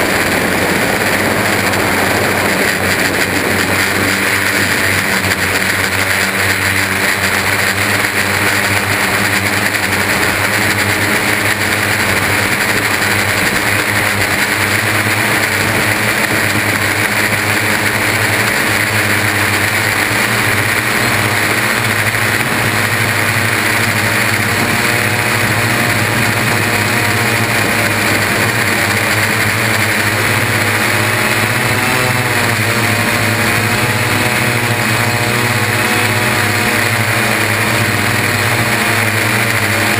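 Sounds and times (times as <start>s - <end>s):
drone motors and propellers whirring: 0.0s - 39.9s.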